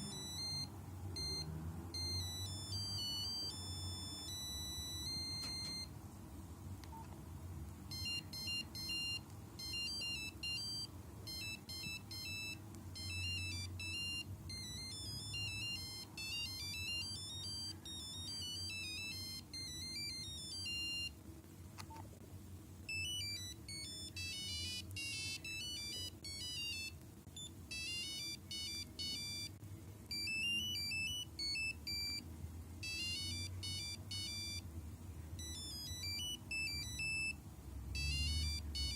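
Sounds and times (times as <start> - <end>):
phone ringtone beeping melody: 0.0 - 5.9, 7.9 - 21.2, 22.9 - 32.2, 32.8 - 34.7, 35.4 - 38.9.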